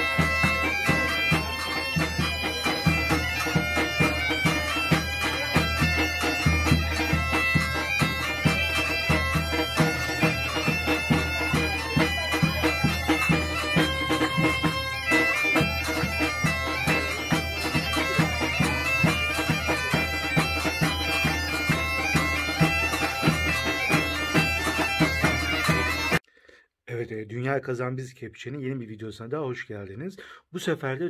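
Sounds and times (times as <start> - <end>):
regular beat: 0.0 - 26.2
wind instrument melody: 0.0 - 26.2.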